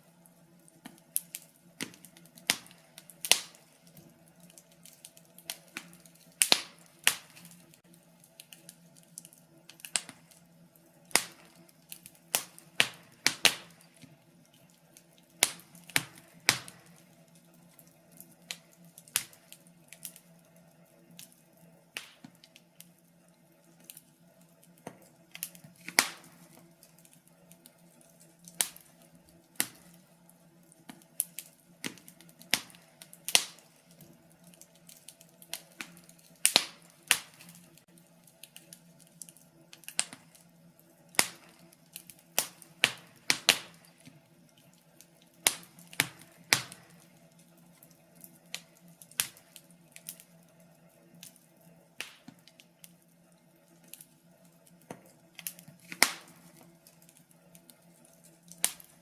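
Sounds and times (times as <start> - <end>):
fire popping and snapping: 0.0 - 59.0.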